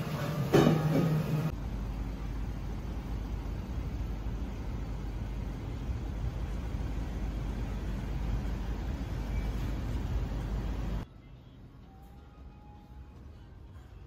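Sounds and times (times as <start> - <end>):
city street rumble: 0.0 - 14.0.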